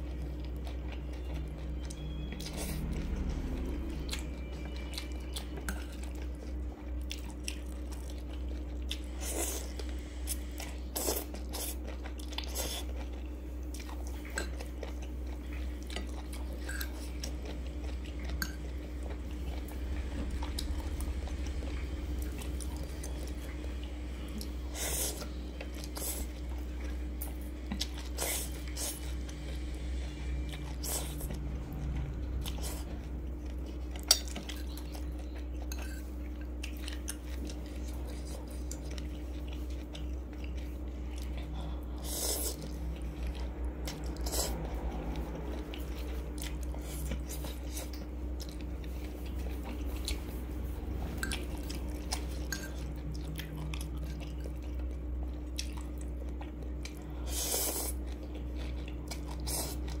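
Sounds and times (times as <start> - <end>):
chewing and slurping noodles: 0.0 - 60.0
low hum: 0.0 - 60.0.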